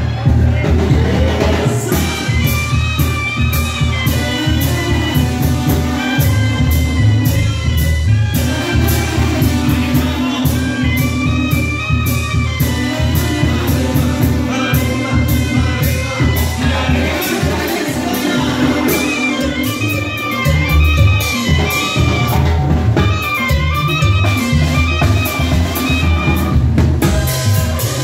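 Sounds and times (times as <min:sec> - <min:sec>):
brass band playing dance music: 0:00.0 - 0:28.0.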